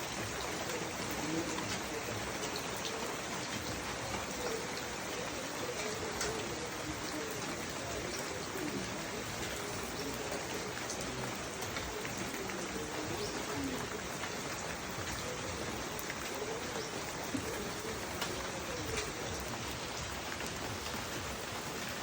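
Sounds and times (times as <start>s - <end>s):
rain pattering on surfaces: 0.0s - 22.0s
raindrops ticking: 0.0s - 22.0s.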